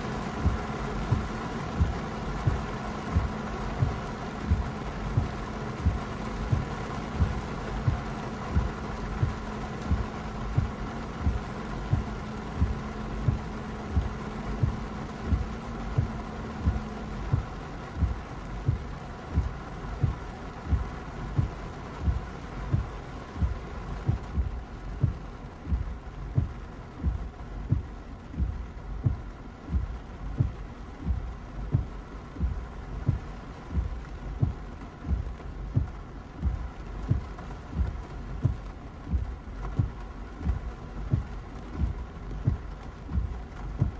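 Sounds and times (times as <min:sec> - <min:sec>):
car hum: 0:00.0 - 0:43.9
windshield wipers thumping: 0:00.0 - 0:43.9.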